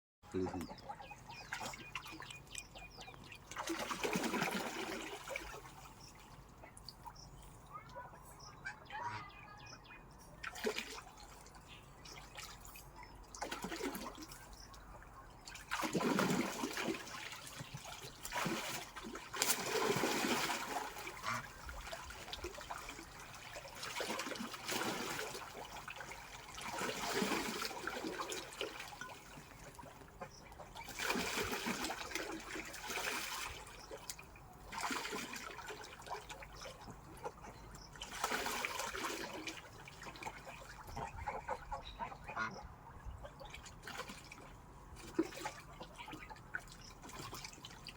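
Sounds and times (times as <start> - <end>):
water splashing and trickling: 0.3 - 47.9.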